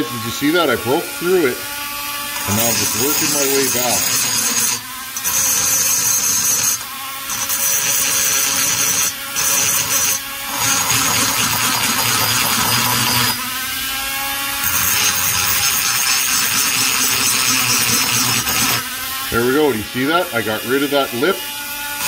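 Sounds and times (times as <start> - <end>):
rotary grinding tool cutting metal: 0.0 - 22.0.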